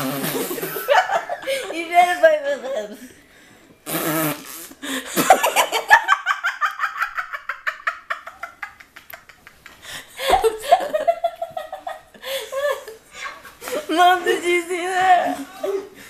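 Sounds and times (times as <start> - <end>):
woman laughing: 0.2 - 3.1, 4.8 - 16.0.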